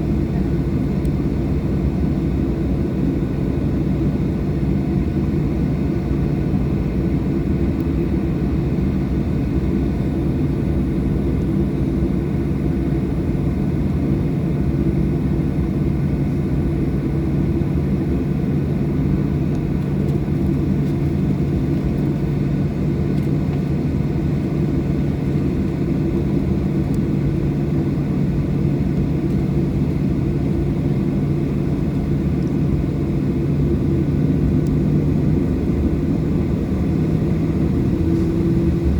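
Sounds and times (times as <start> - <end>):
airplane cabin engine hum: 0.0 - 38.9.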